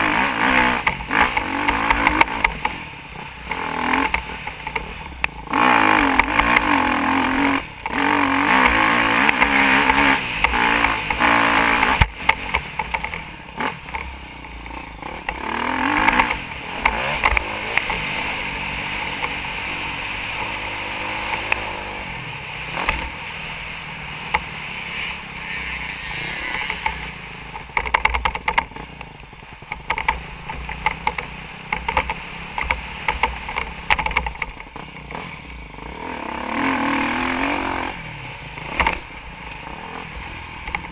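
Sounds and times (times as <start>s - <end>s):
dirt bike engine revving: 0.0s - 29.0s, 29.6s - 40.9s.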